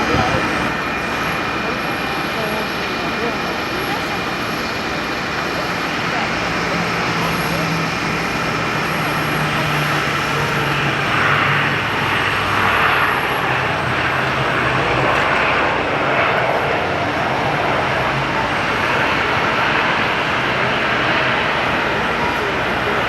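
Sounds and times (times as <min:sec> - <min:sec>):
aircraft engine: 0:00.0 - 0:23.0.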